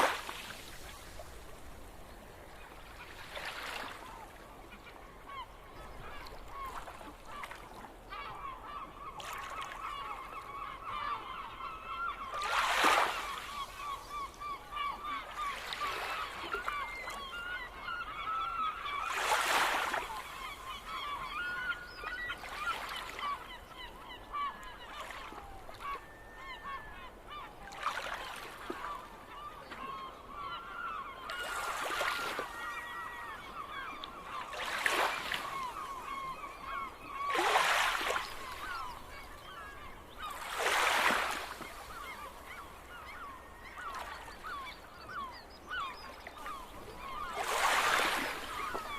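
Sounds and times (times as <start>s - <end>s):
gulls calling: 2.1s - 48.9s.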